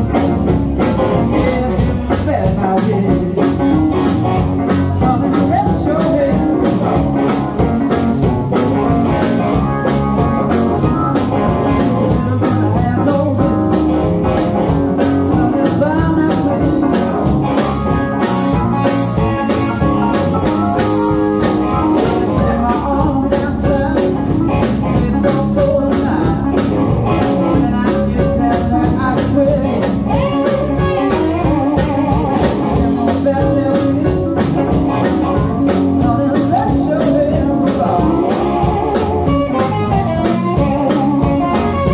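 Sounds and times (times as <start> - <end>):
live blues band playing: 0.0 - 41.9.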